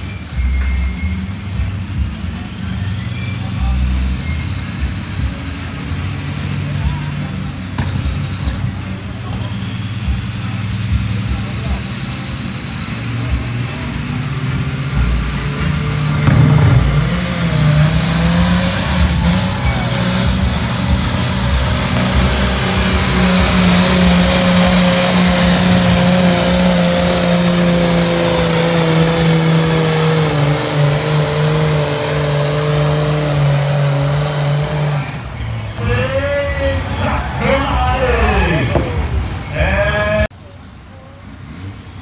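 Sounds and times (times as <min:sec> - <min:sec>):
diesel tractor engine at full throttle: 0:00.0 - 0:42.0.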